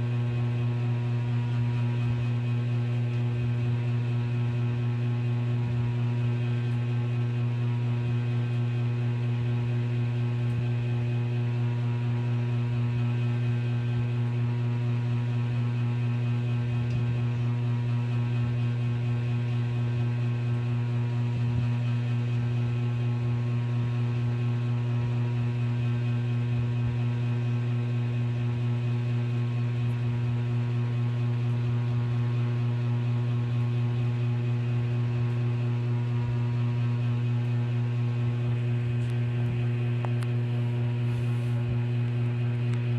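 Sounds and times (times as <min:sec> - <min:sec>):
ceiling fan humming: 0:00.0 - 0:42.9.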